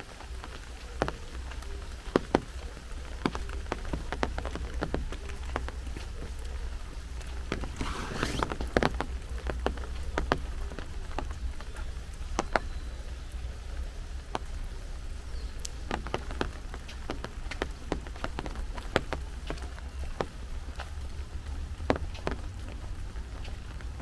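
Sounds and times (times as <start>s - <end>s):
raindrops ticking close by: 0.0s - 7.8s, 8.4s - 24.0s
rain hissing: 0.0s - 24.0s.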